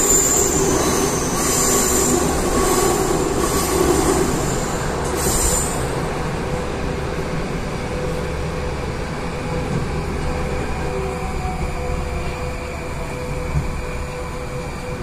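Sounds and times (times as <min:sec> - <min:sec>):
train rumble and whine: 0:00.0 - 0:15.0.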